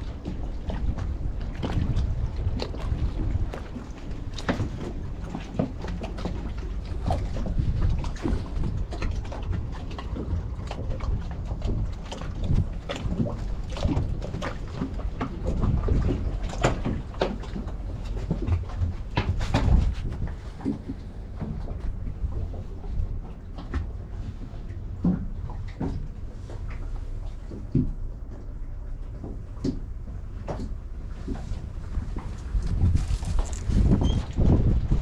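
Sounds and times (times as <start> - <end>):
wind on microphone: 0.0 - 25.6, 30.5 - 35.0.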